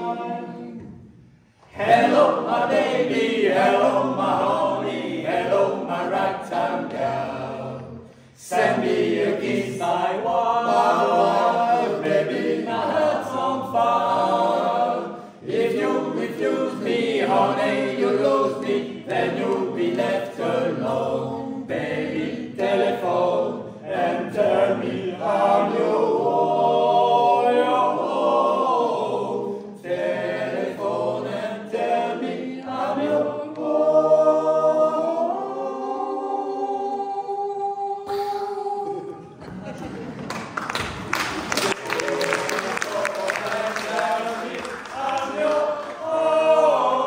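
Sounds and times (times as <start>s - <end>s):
male vocal group singing a cappella: 0.0s - 1.0s, 1.6s - 39.4s, 41.9s - 47.0s.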